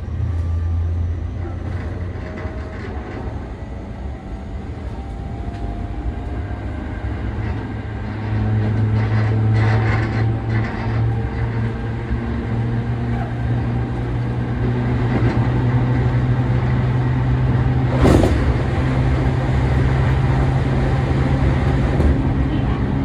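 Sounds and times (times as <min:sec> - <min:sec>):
electric train running hum: 0:00.0 - 0:23.0.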